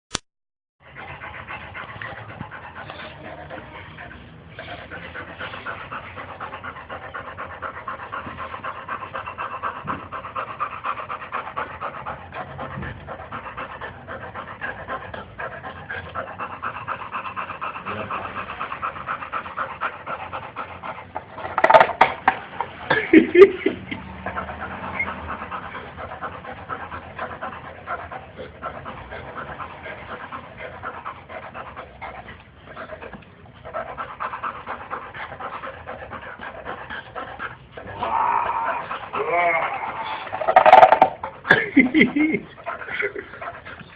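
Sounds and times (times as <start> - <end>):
dog panting rapidly: 0.8 - 43.9.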